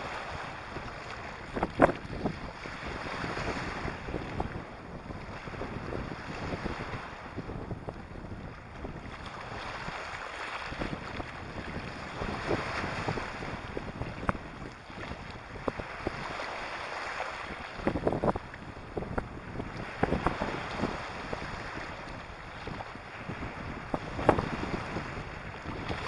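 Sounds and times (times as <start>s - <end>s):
waves on pebbly shore: 0.0s - 7.4s, 8.4s - 26.0s
wind buffeting microphone: 0.0s - 26.0s.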